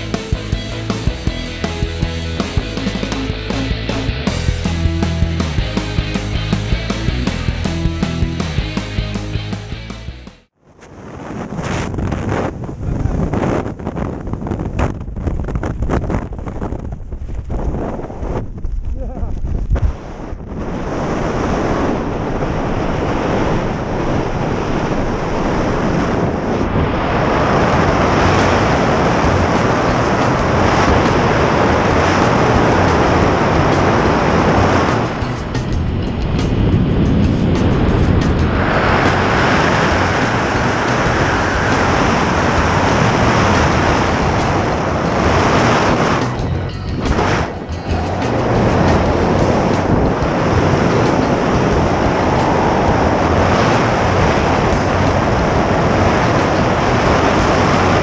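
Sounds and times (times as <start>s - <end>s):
wind buffeting microphone: 10.6s - 58.0s.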